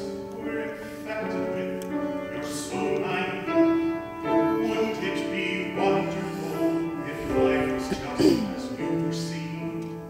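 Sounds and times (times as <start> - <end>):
slow piano chords: 0.0 - 10.0.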